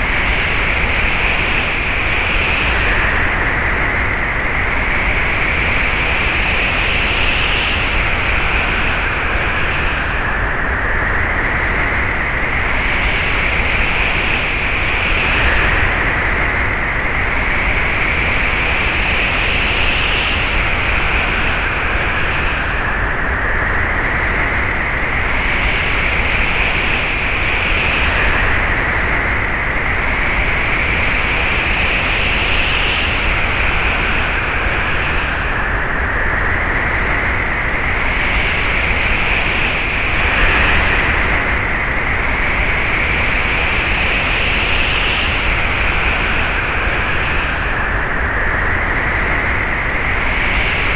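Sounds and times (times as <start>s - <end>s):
strong gusting wind: 0.0s - 50.9s.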